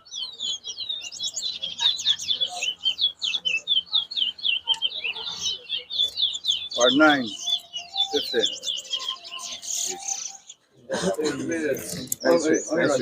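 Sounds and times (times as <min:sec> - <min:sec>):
finch singing rapid chirps: 0:00.0 - 0:10.7.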